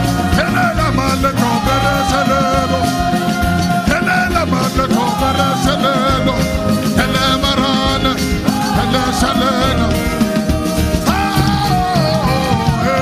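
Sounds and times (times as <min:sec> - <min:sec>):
gospel worship music: 0:00.0 - 0:13.0
person singing: 0:00.0 - 0:13.0.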